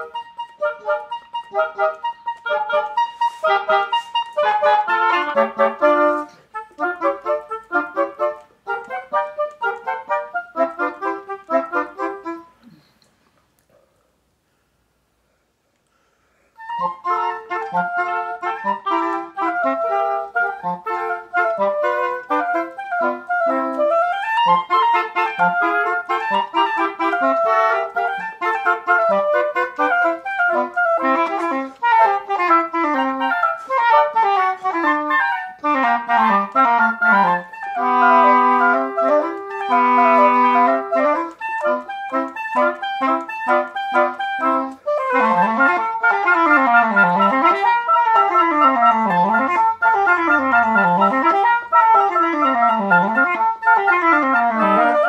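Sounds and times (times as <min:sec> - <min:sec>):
oboe trio playing: 0:00.0 - 0:13.1, 0:16.5 - 0:55.0.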